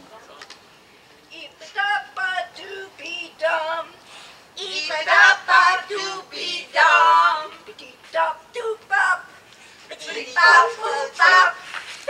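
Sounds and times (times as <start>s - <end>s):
clowns sing-song calls: 1.4s - 12.0s.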